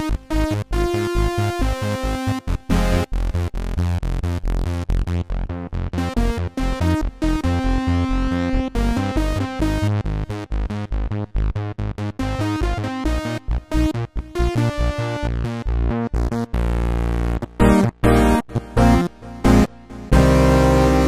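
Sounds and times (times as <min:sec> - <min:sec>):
deep synth bass line: 0:00.0 - 0:21.0
synthesizer notes and chords: 0:00.0 - 0:21.0.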